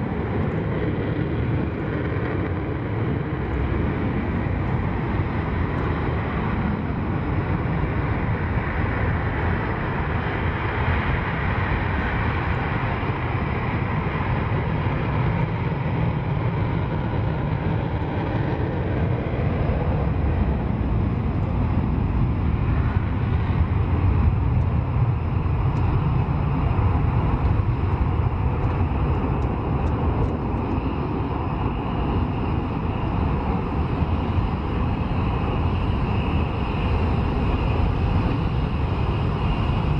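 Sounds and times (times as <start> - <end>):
jet engines in afterburner: 0.0 - 39.9.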